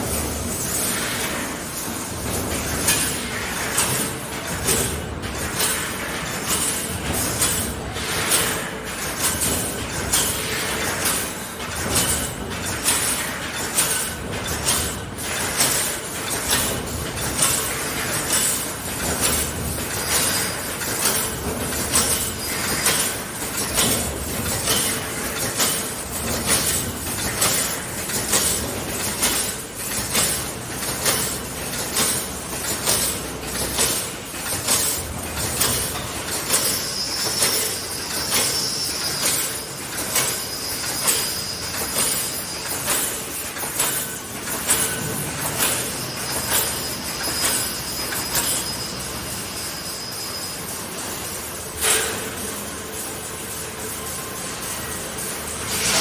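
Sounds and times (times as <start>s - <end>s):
machine running noise: 0.0s - 56.0s.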